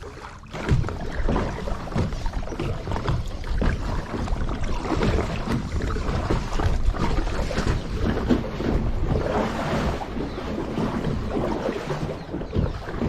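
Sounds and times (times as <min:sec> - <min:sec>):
water sloshing around kayak: 0:00.0 - 0:13.0
wind rumbling on microphone: 0:00.5 - 0:13.0.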